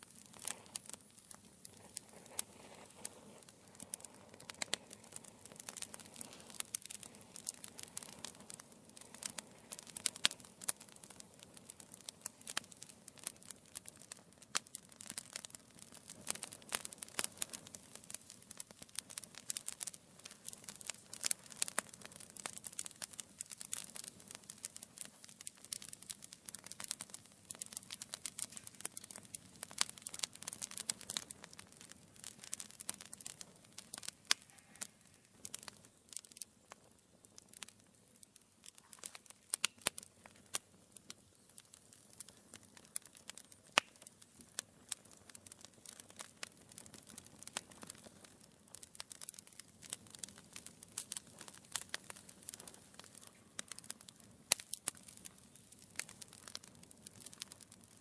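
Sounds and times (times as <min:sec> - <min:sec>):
soft hiss of flames: 0:00.0 - 0:58.0
wood fire crackling and popping: 0:00.0 - 0:58.0.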